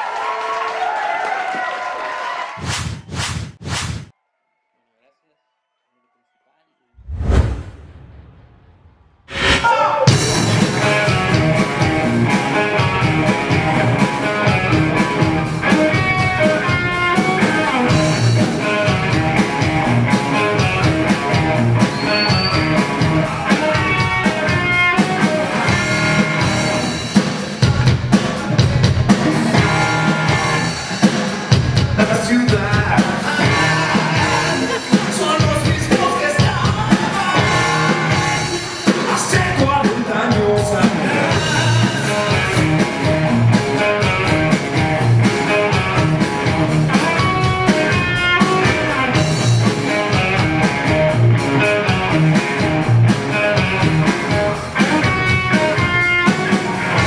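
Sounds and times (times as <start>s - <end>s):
drum kit: 7.5s - 57.0s
electric guitars: 9.4s - 57.0s.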